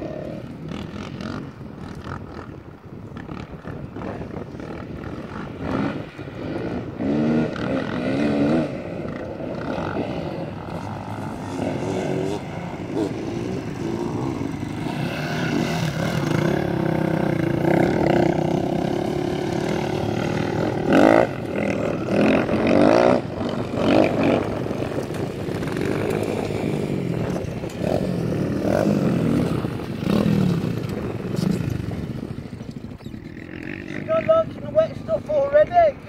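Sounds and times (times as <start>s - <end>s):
motorbike engines revving: 0.0s - 36.0s.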